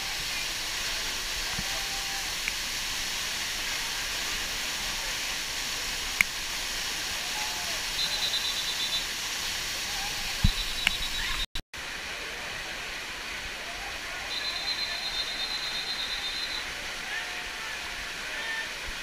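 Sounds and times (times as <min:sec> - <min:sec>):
waterfall cascading over rock: 0:00.0 - 0:19.0.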